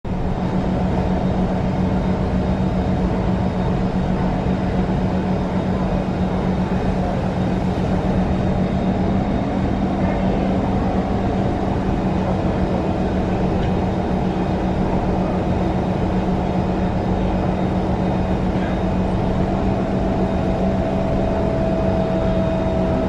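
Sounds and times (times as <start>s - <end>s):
train electrical hum: 0.1s - 23.0s
ventilation air rushing: 0.1s - 23.0s.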